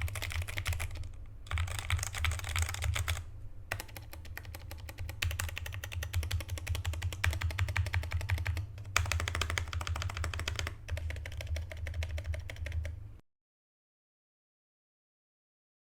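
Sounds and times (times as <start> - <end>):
fast mechanical keyboard typing: 0.0 - 13.0
steady low hum: 0.0 - 13.2.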